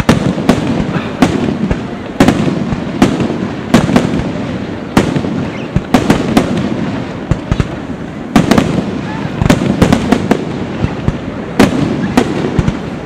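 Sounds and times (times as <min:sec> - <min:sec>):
firework shells bursting: 0:00.0 - 0:13.0
low background noise: 0:00.0 - 0:13.0.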